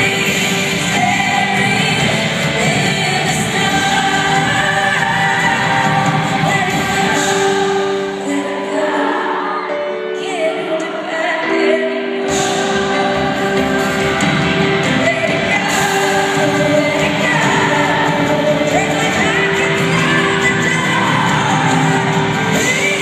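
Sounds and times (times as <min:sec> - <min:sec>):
live pop band over pa: 0:00.0 - 0:23.0
woman singing: 0:00.0 - 0:23.0.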